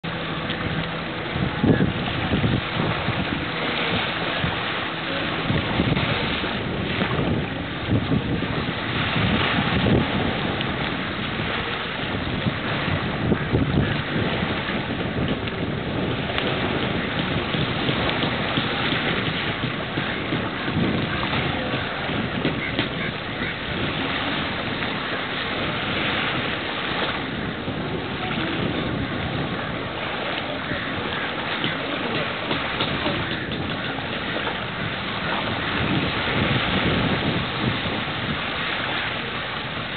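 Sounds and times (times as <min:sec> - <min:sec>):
open-air rush: 0:00.0 - 0:39.9
water at the shore: 0:00.0 - 0:39.9
wind: 0:00.0 - 0:39.9
wind buffeting the microphone: 0:00.0 - 0:39.9.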